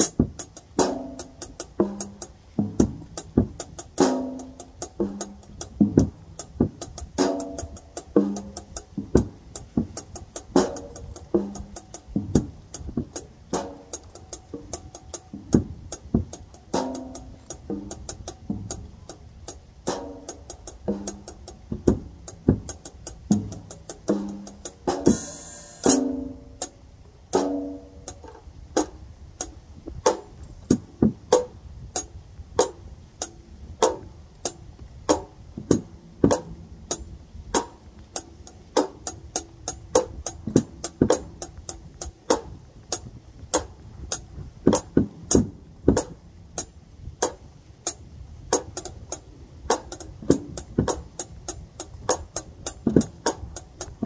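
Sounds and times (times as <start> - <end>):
drum kit groove: 0.0 - 54.0.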